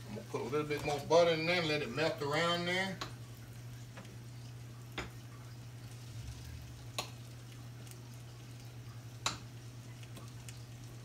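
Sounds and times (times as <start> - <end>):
fish sizzling in a skillet: 0.0 - 11.0.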